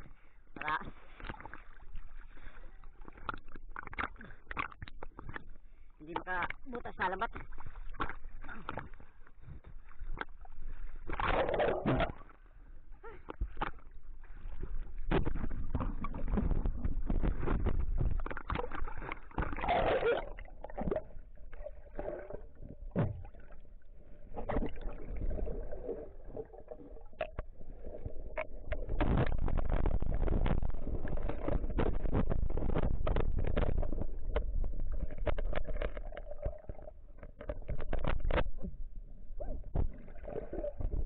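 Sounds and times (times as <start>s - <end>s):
water sloshing and gurgling: 0.0s - 41.0s
knocks and splashes: 3.0s - 12.4s, 13.2s - 23.7s, 24.3s - 38.8s.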